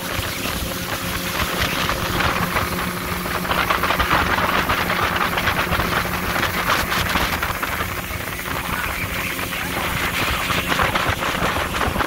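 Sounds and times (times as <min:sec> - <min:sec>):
motorboat engine drone: 0:00.0 - 0:12.0
water churning and splashing: 0:00.0 - 0:12.0.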